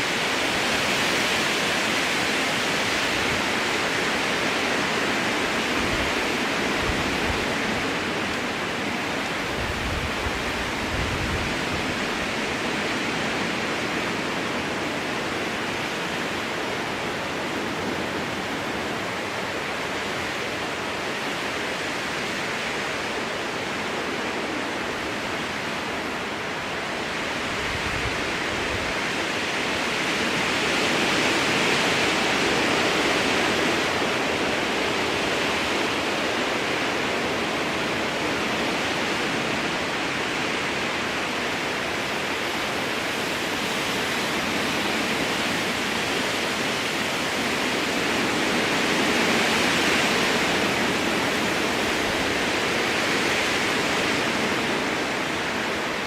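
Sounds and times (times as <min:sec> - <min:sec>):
strong wind through trees: 0:00.0 - 0:56.0.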